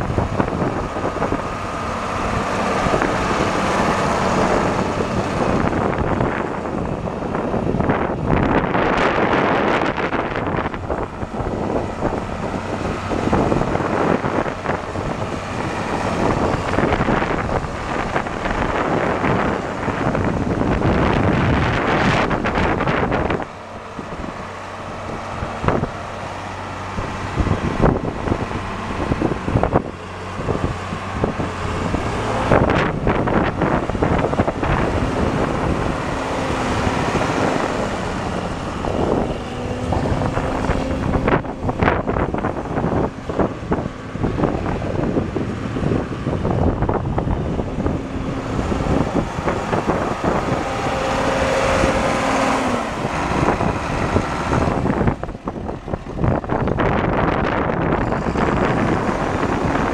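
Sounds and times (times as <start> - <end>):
tractor diesel engine running: 0.0 - 59.9
wind buffeting microphone: 0.0 - 59.9.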